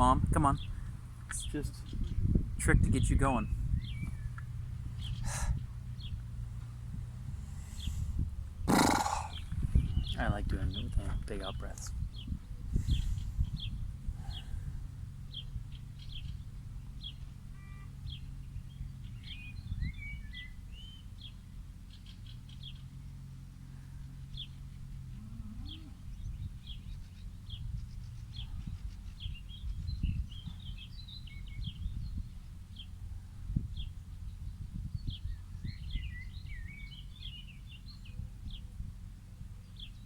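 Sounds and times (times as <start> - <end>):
small birds chirping: 0.0 - 40.0
steady low rumble: 0.0 - 40.0.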